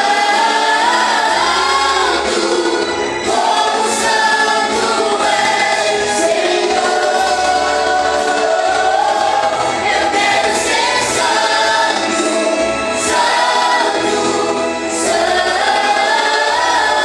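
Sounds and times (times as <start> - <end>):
group singing worship song: 0.0 - 17.0
musical accompaniment: 0.0 - 17.0.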